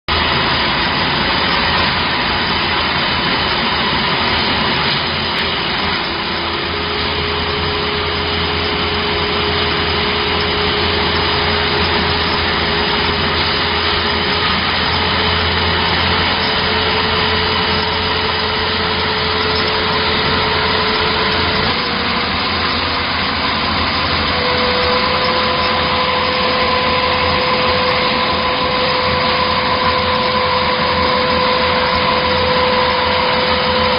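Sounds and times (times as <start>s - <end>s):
machine running with motor whine: 0.1s - 33.9s.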